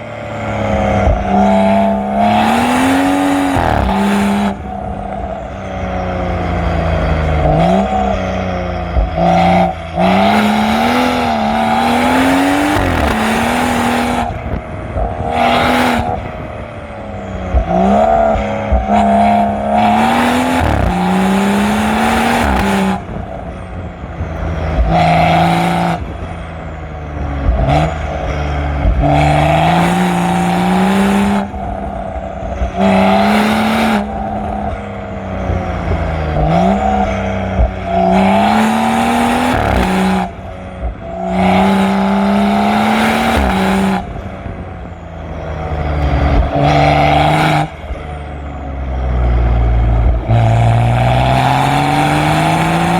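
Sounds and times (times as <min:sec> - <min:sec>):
car exhaust revving hard: 0:00.0 - 0:52.9.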